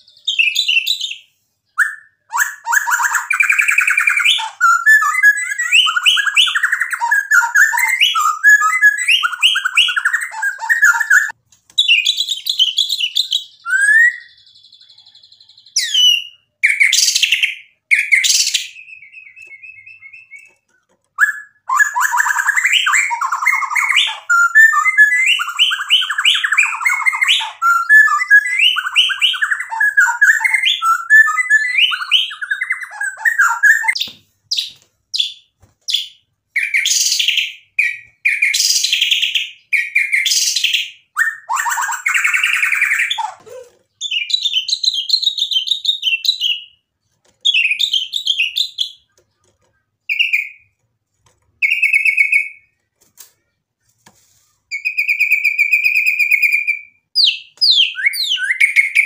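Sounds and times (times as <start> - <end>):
bird singing: 0.0 - 46.9, 54.7 - 59.0.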